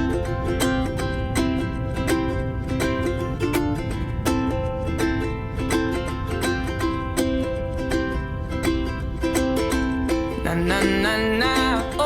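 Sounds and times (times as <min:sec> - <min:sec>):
strummed ukulele-like music: 0:00.0 - 0:12.0.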